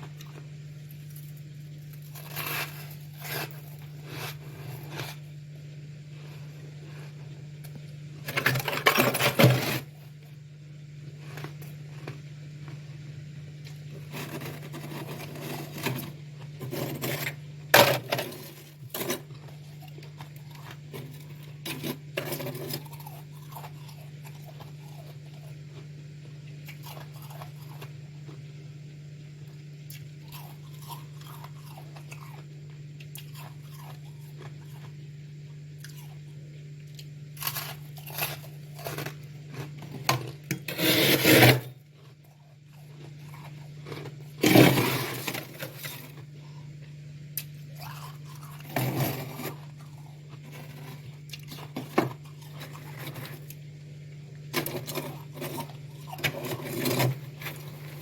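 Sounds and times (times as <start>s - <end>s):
chewing frost crunches: 0.0s - 8.5s, 18.2s - 28.7s, 29.4s - 40.6s, 41.8s - 58.0s
steady low hum: 0.0s - 58.0s.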